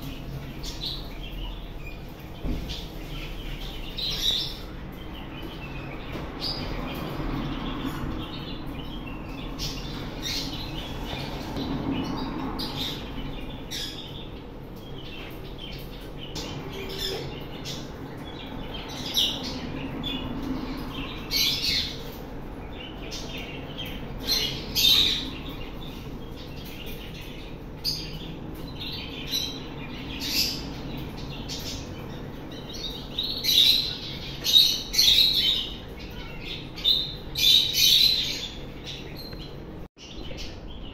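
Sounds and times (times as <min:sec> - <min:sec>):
parrots chirping: 0:00.0 - 0:40.9.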